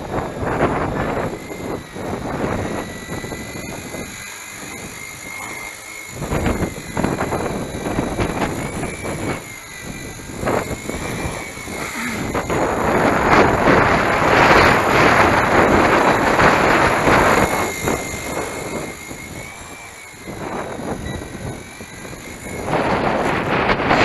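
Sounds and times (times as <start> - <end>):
small helicopter motor whine: 0.0 - 24.0
wind buffeting microphone: 0.0 - 24.0.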